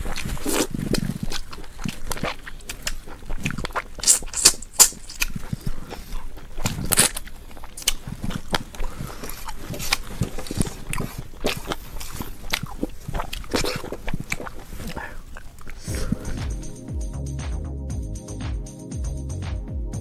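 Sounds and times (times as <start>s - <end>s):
crunches and snaps: 0.0s - 16.7s
person chewing and smacking: 0.0s - 16.9s.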